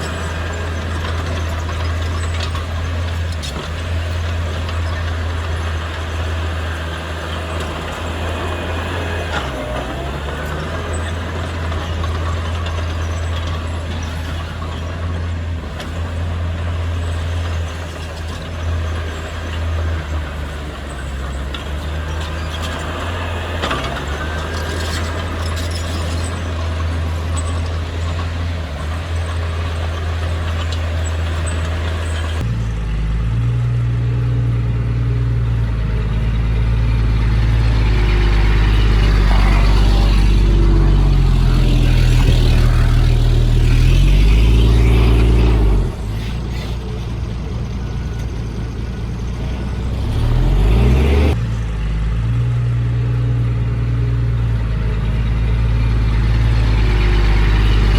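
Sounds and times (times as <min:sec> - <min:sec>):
heavy diesel engine running: 0:00.0 - 0:52.6, 0:54.1 - 0:57.9.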